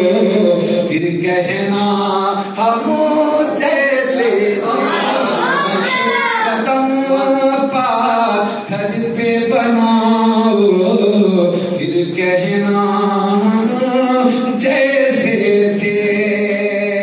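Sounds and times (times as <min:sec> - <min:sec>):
man singing into a microphone: 0:00.0 - 0:04.8, 0:05.6 - 0:17.0.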